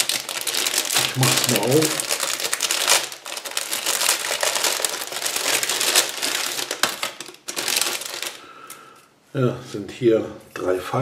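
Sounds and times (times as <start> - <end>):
plastic packet crinkling: 0.0 - 8.8.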